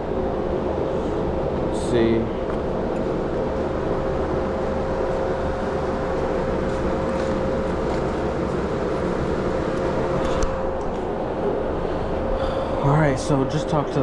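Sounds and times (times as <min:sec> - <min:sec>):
kitchen machinery hum: 0:00.0 - 0:14.0.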